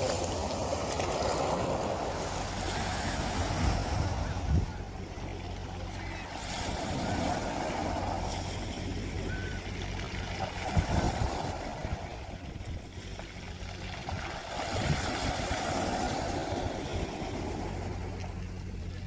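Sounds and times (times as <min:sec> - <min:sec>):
steady low hum: 0:00.0 - 0:19.0
water rushing: 0:00.0 - 0:19.0.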